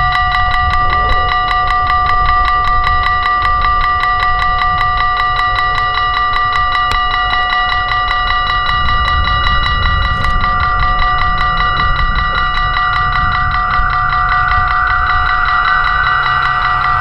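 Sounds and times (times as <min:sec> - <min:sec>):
level crossing bell ringing: 0:00.0 - 0:17.0
wind rumble on microphone: 0:00.0 - 0:17.0.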